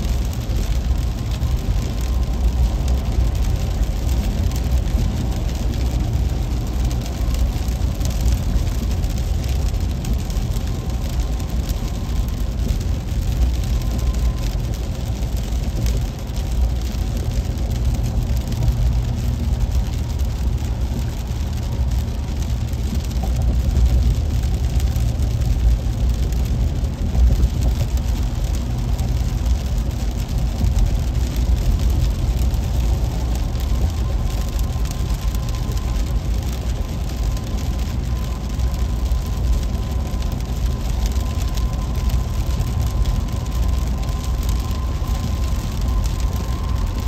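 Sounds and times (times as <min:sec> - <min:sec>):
car driving rumble: 0:00.0 - 0:47.0
rain on car: 0:00.0 - 0:47.0.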